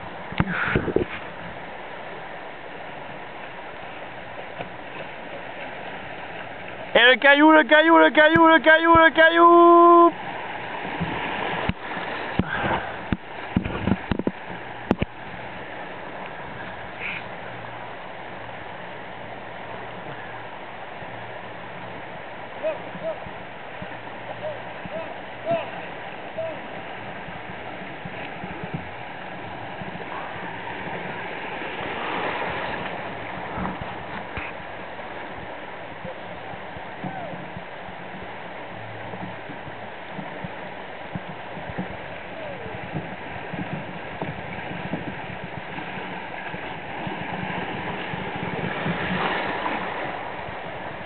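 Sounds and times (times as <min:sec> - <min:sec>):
river rushing over stones: 0:00.0 - 0:51.0.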